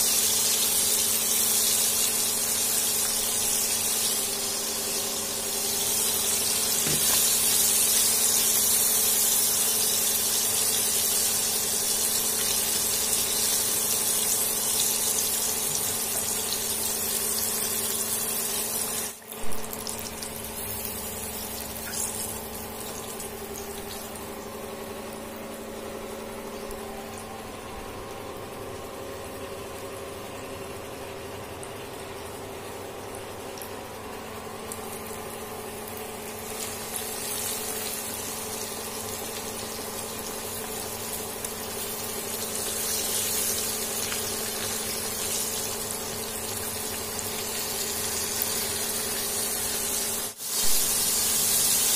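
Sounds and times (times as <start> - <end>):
hot oil sizzling: 0.0 - 27.3, 33.0 - 51.9.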